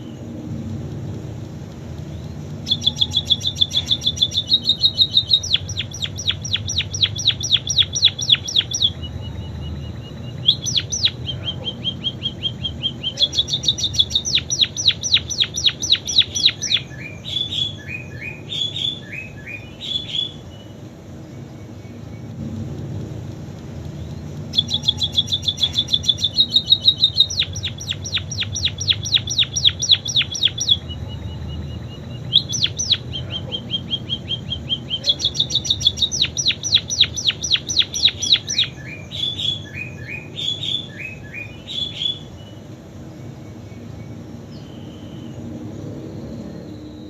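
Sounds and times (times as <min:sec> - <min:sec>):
songbird singing trills: 0:00.0 - 0:47.0
steady low hum: 0:00.0 - 0:47.0.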